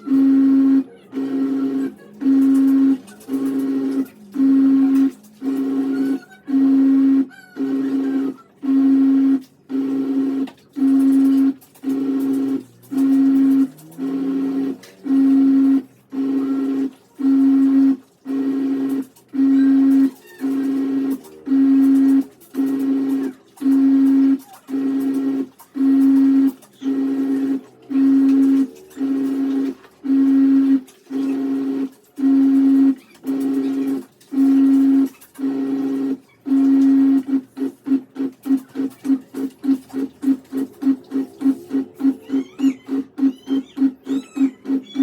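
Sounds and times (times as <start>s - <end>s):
washing machine motor humming: 0.0s - 45.0s.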